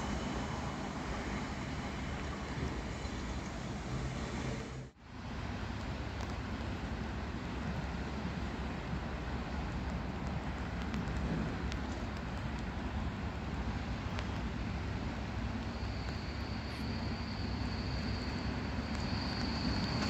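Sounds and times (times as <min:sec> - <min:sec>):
distant road traffic: 0:00.0 - 0:20.0
electric train rumble: 0:00.0 - 0:20.0
high steady whine: 0:00.0 - 0:20.0.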